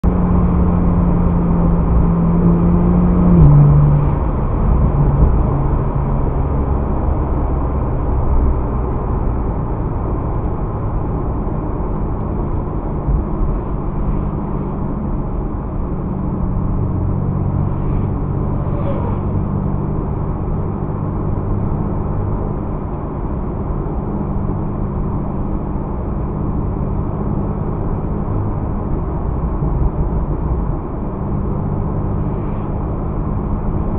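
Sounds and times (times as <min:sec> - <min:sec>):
car engine from inside cabin: 0:00.0 - 0:33.9.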